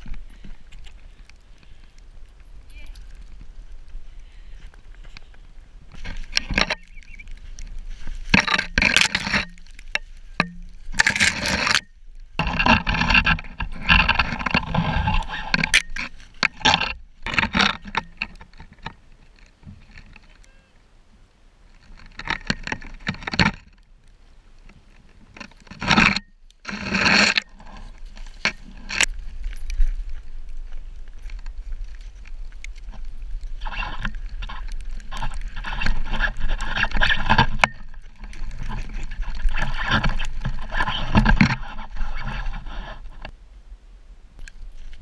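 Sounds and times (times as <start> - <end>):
weed stalks and snow scraping camera: 0.0 - 20.5, 24.6 - 43.3.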